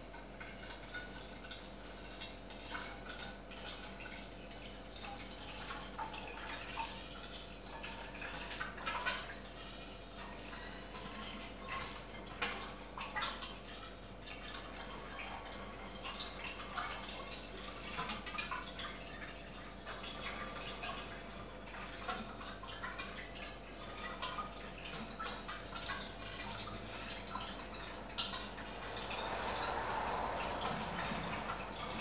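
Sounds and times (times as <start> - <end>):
coolant trickling and splashing: 0.0 - 32.0.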